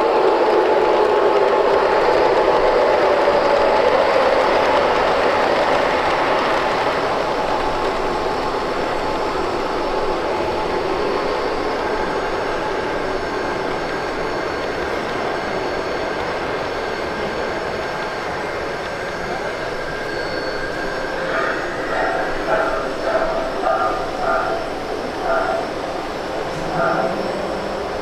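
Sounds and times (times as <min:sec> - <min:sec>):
model train rolling on track: 0:00.0 - 0:28.0.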